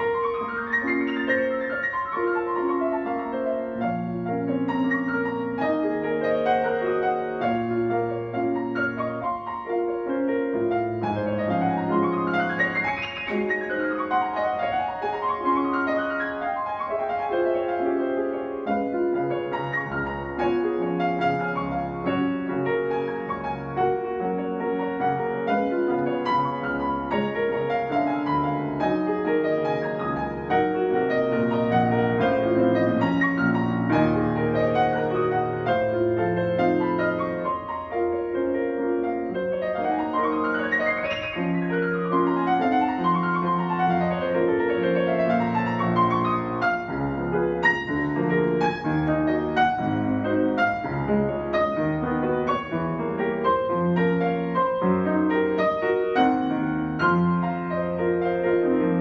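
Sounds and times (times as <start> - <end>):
solo classical piano piece: 0.0 - 59.0.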